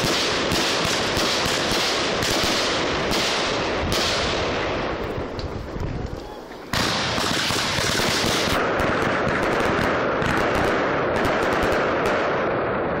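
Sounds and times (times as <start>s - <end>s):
firework crackling cracks: 0.0s - 13.0s.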